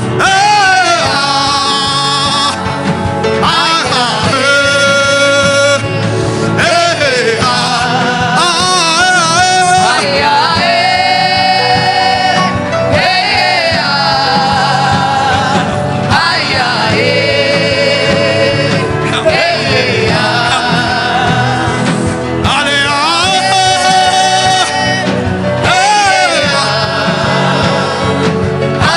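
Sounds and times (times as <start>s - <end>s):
instrumental backing music: 0.0s - 28.9s.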